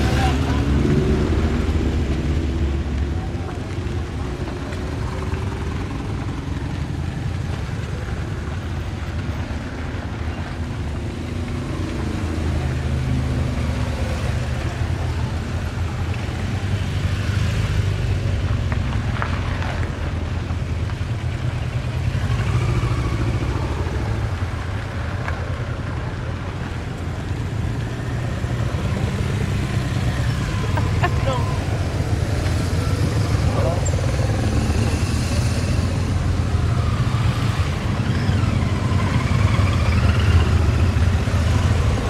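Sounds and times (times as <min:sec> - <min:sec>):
motorcycles and cars passing: 0:00.0 - 0:42.0.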